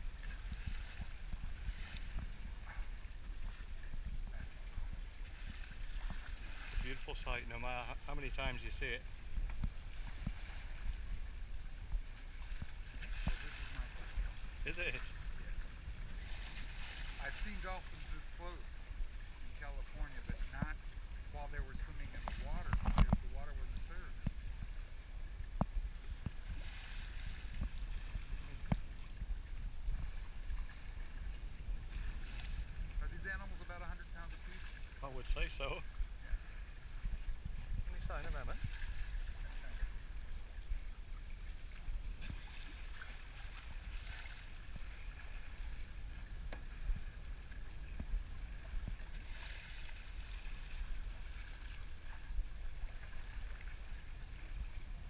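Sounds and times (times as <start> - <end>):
water rushing past a boat: 0.0 - 55.0
wind rumbling on microphone: 0.0 - 55.0.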